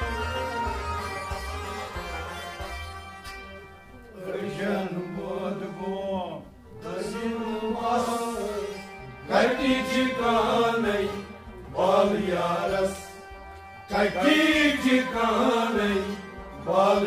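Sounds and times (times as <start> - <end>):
harmonium drone: 0.0 - 17.0.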